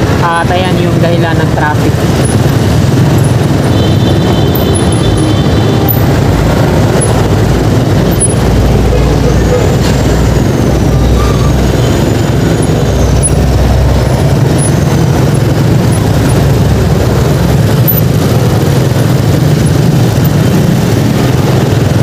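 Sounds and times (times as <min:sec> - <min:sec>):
congested road traffic: 0:00.0 - 0:22.0.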